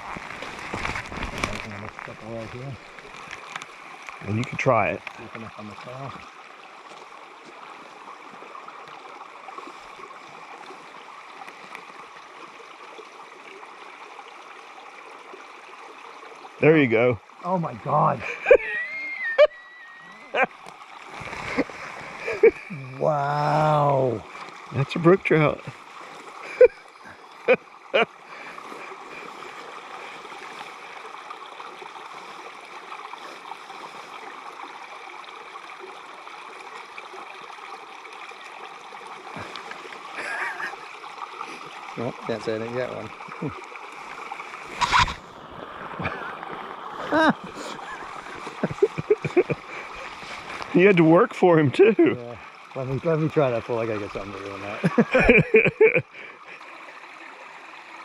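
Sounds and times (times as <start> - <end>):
stream gurgling over rocks: 0.0 - 58.0.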